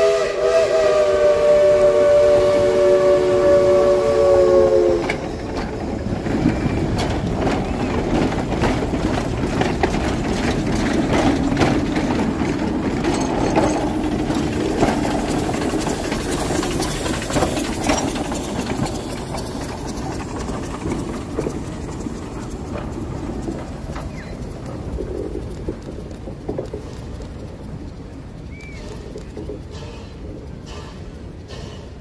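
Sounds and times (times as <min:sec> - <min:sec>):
locomotive rumble and hiss: 0:00.0 - 0:32.0
steam locomotive chuffing: 0:00.0 - 0:32.0.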